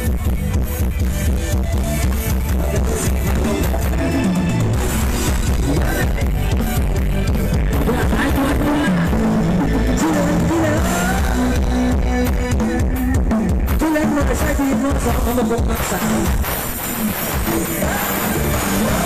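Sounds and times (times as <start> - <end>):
loud bass-heavy music: 0.0 - 19.0.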